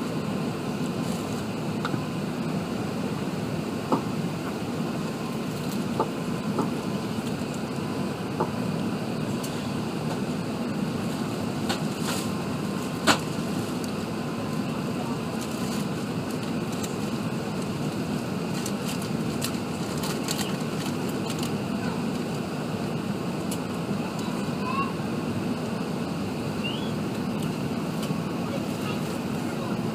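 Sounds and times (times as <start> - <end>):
aircraft engines rumbling in cabin: 0.0 - 29.9.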